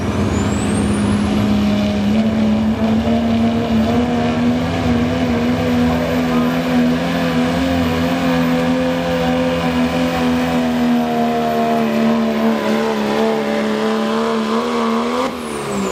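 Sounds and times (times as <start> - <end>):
diesel engine at full load: 0.0 - 15.9.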